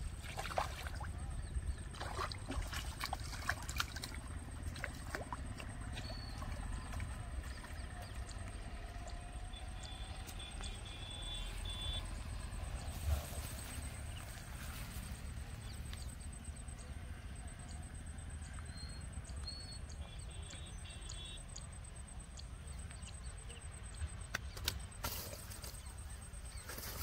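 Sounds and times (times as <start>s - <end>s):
faint chirps: 4.7s - 27.0s.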